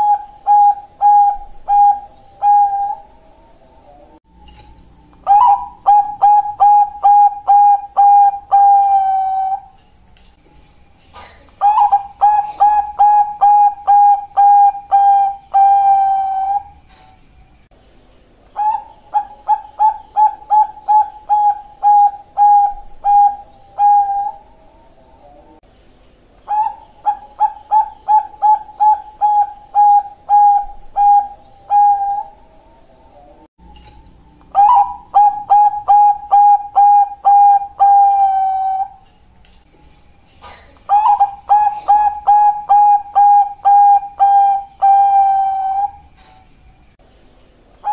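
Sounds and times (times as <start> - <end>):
doves cooing: 0.0 - 4.2, 4.9 - 9.8, 10.4 - 17.3, 18.5 - 25.6, 26.4 - 33.5, 34.1 - 39.0, 39.7 - 46.6.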